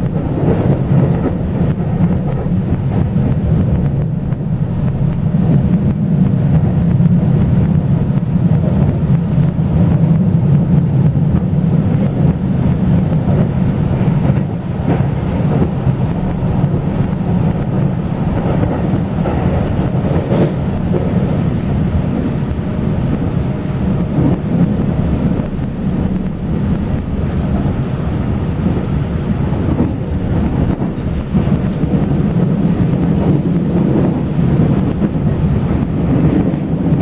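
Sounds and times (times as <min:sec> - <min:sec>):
train rumble from inside carriage: 0:00.0 - 0:37.0.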